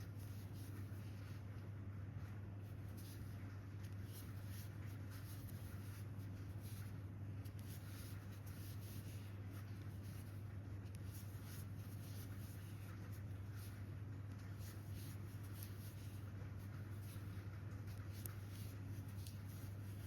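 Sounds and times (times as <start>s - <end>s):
steady low hum: 0.0s - 20.0s
crochet hook scratching yarn: 2.7s - 20.0s.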